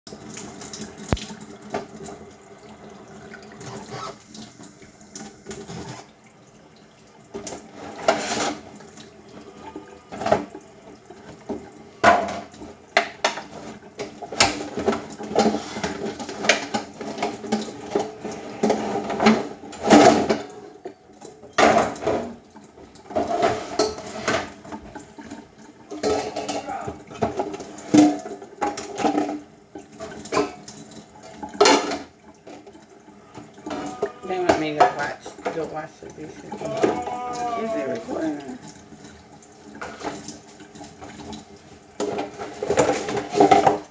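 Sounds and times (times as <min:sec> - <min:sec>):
sink tap running: 0:00.1 - 0:43.9
dishes clattering: 0:07.3 - 0:10.6, 0:11.2 - 0:43.9.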